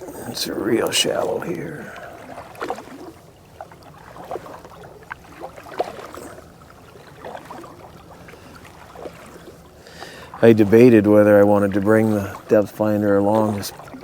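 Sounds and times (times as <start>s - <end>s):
water splashing and gurgling: 0.0s - 14.0s.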